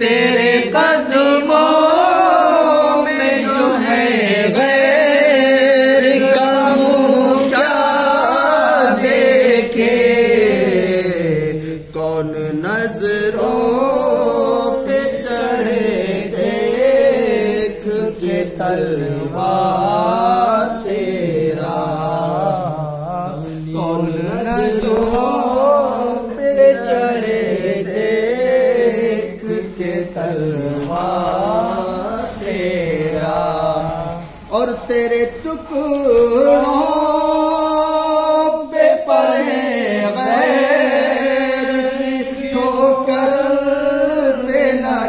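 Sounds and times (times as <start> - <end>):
men singing unaccompanied: 0.0 - 45.0.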